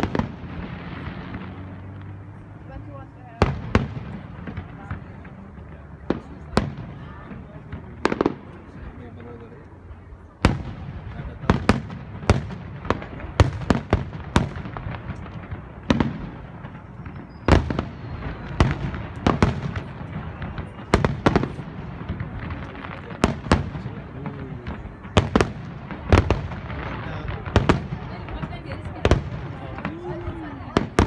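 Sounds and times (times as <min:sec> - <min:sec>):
fireworks bursting in sharp bangs: 0:00.0 - 0:31.0.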